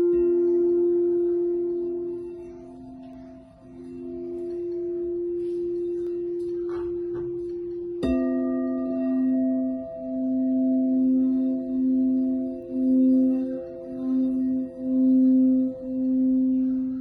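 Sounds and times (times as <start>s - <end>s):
lower singing bowl struck: 0.0s - 17.0s
singing bowl sustained tone: 0.0s - 17.0s.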